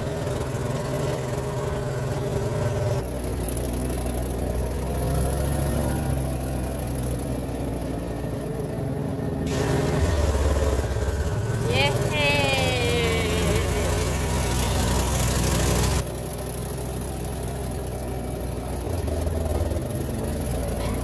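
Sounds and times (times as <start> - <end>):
car engine humming: 0.0 - 21.0.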